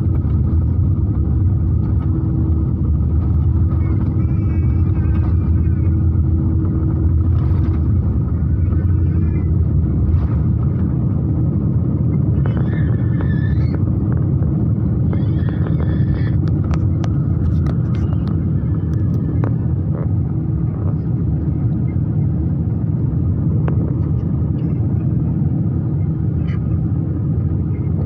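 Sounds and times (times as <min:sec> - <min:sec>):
jet engine low rumble: 0:00.0 - 0:28.0.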